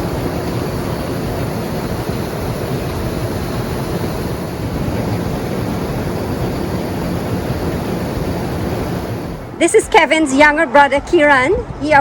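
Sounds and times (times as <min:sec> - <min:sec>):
combine harvester running: 0:00.0 - 0:10.2.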